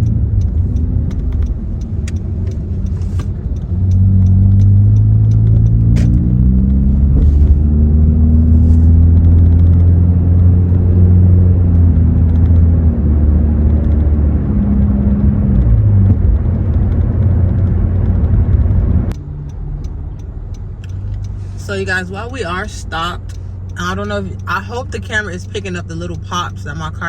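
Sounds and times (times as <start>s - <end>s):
car exhaust drone: 0.0s - 27.0s.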